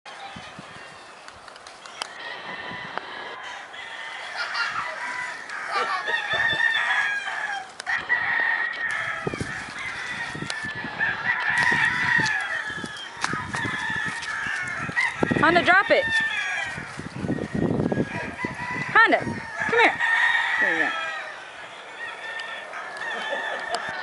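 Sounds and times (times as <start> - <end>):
rooster crowing: 2.1 - 24.0.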